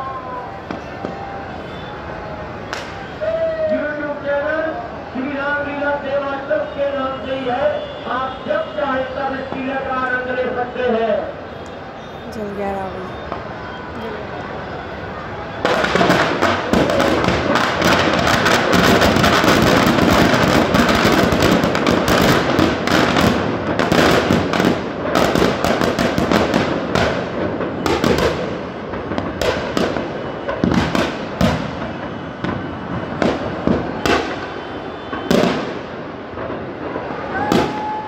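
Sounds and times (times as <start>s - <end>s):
firecrackers banging: 0.0s - 10.5s, 14.3s - 38.0s.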